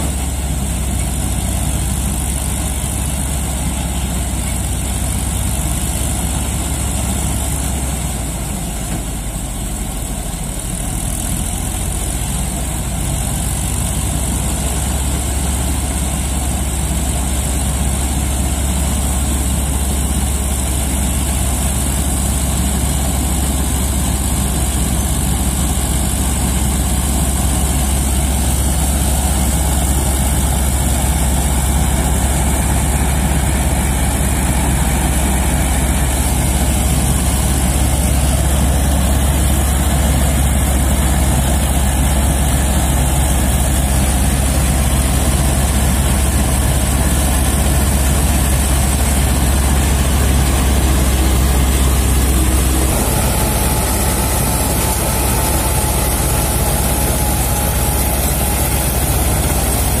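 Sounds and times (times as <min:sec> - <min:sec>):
combine harvester running: 0:00.0 - 1:00.0.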